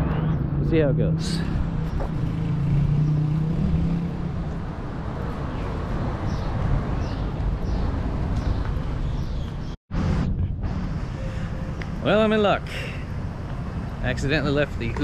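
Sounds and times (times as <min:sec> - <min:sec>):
vehicle engine hum: 0:00.0 - 0:15.0
traffic rumble and hiss: 0:00.6 - 0:15.0.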